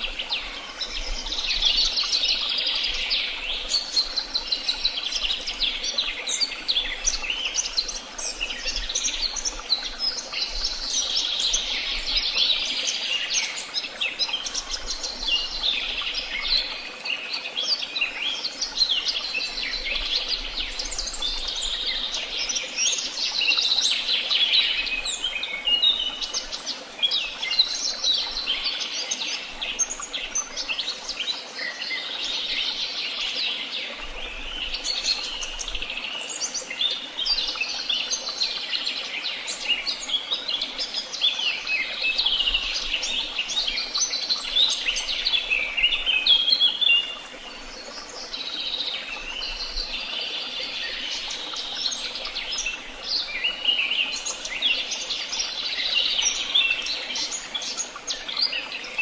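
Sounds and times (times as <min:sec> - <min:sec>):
chorus of songbirds chirping: 0:00.0 - 0:59.0.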